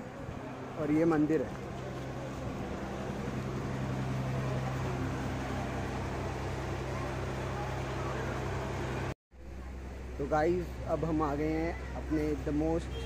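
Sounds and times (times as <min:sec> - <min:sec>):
low machine hum: 0:00.0 - 0:11.1.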